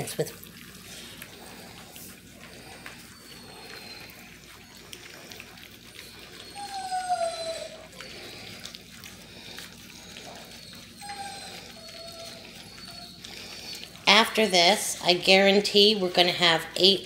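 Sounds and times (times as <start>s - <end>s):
puppy whining: 0.0s - 16.6s
puppies lapping food: 0.0s - 17.0s.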